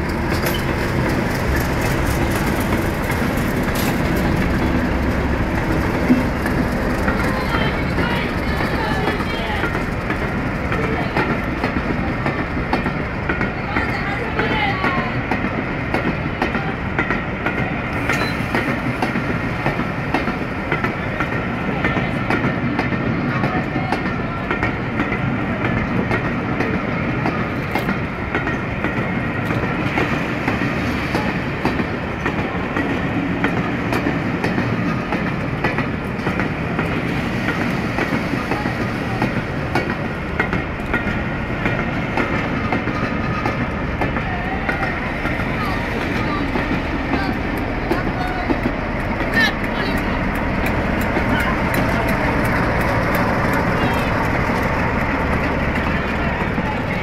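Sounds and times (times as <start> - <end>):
diesel locomotive rumble: 0.0 - 57.0
train wheels clicking over rail joints: 0.0 - 57.0.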